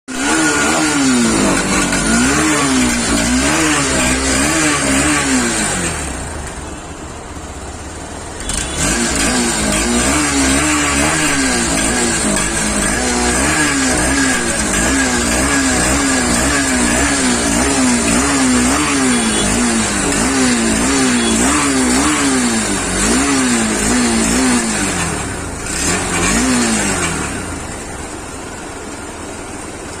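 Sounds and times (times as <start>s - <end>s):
motorcycle engine revving: 0.1s - 30.0s.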